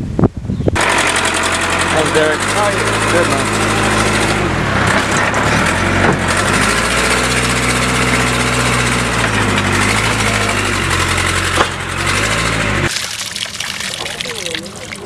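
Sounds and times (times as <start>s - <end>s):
loud engine running: 0.8s - 12.9s.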